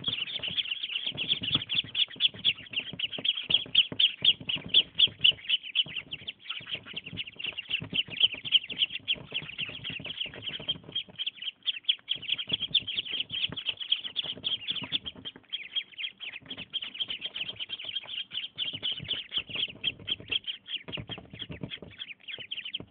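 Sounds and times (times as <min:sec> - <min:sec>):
ducklings peeping: 0:00.0 - 0:22.9.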